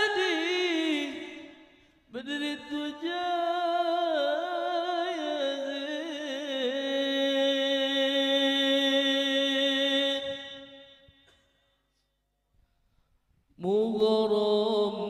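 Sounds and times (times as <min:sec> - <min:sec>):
man singing into a microphone: 0:00.0 - 0:11.1, 0:13.6 - 0:15.0.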